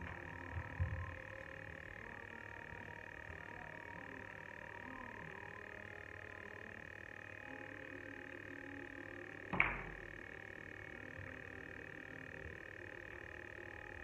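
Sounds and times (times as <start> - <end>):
high background hum: 0.0 - 14.0.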